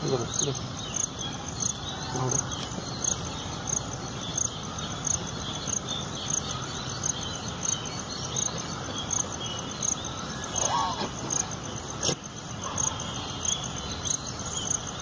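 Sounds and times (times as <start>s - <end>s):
faint bird chirps: 0.0s - 15.0s
insect chirping: 0.0s - 15.0s.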